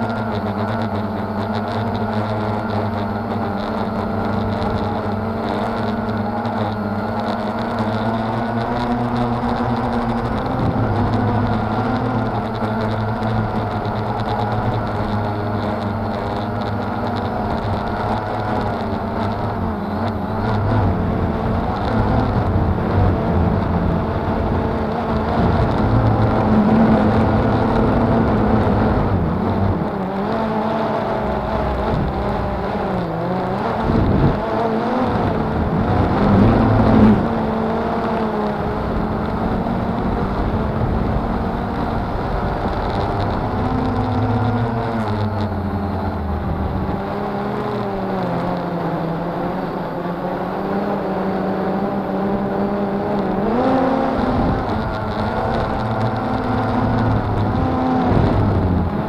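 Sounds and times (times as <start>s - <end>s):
drone propellers whining: 0.0s - 59.0s
wind rumble: 0.0s - 59.0s.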